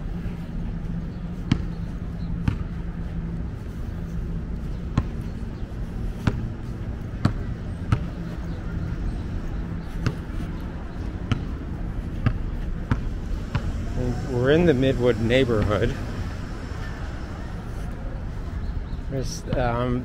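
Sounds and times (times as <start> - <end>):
low steady rumble: 0.0 - 19.8
footsteps on pavement: 0.0 - 20.0.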